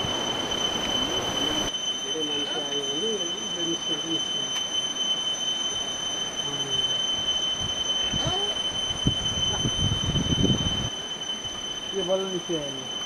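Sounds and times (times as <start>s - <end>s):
high-pitched two-tone whine: 0.0s - 13.0s.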